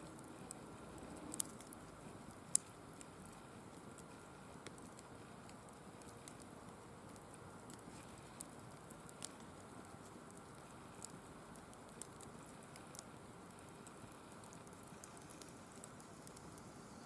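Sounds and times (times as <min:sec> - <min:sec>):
fire hissing: 0:00.0 - 0:17.0
firewood crackling and popping: 0:00.0 - 0:17.0.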